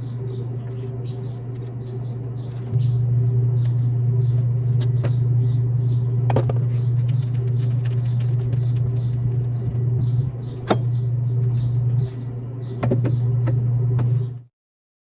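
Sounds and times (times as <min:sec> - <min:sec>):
diesel engine running: 0:00.0 - 0:14.4.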